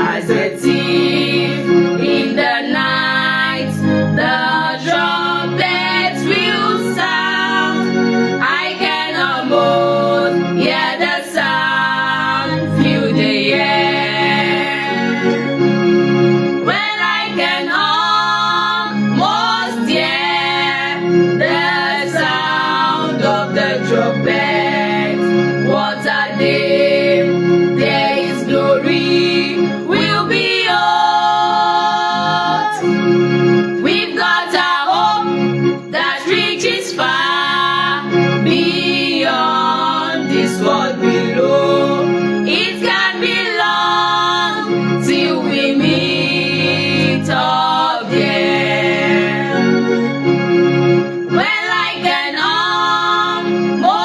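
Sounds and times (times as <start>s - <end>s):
people singing gospel song: 0.0s - 50.2s, 51.2s - 54.0s
sustained musical backing: 0.0s - 54.0s.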